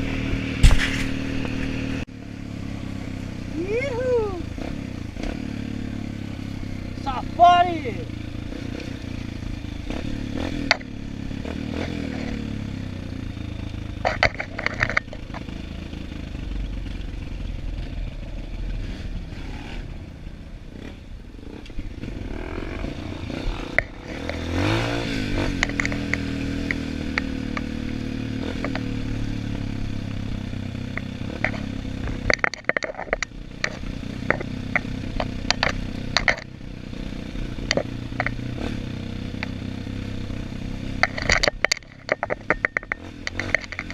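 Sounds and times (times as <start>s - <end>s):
knocks and rattles of bike: 0.0s - 3.3s, 4.0s - 20.0s, 20.7s - 43.9s
motorcycle engine revving: 0.0s - 43.9s.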